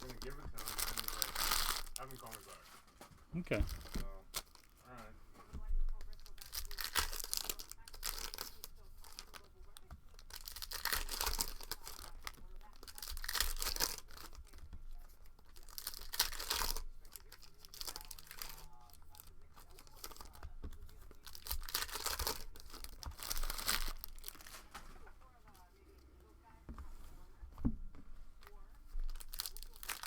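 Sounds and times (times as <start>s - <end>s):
plastic wrapping tearing and crinkling: 0.0s - 5.0s, 5.6s - 25.6s, 28.4s - 30.0s
quiet rustling: 0.0s - 30.0s.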